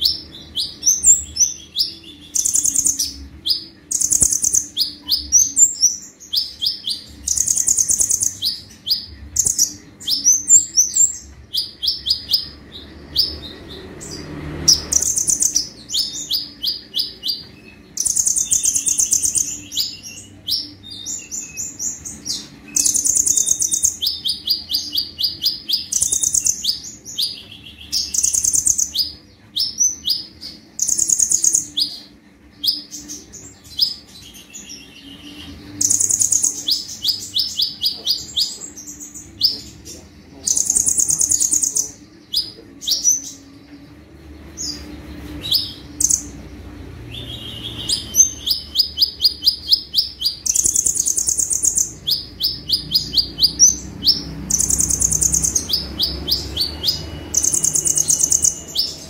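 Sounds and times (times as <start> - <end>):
sunbird singing high trills: 0.0 - 43.5, 44.6 - 59.0.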